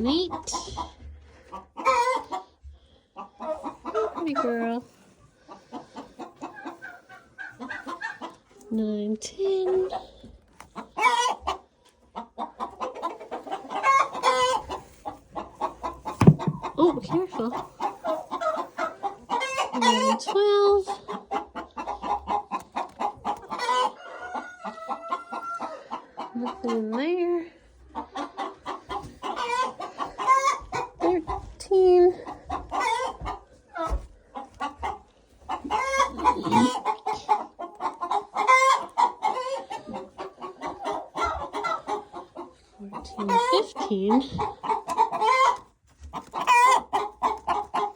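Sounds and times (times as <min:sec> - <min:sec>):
hens clucking: 0:00.0 - 0:47.9.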